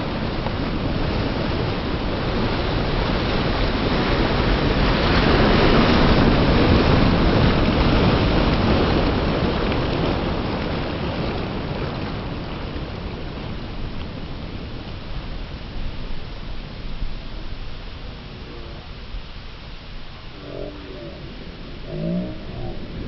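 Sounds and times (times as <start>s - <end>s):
ocean waves breaking: 0.0s - 23.0s
surf washing over microphone: 0.0s - 23.0s.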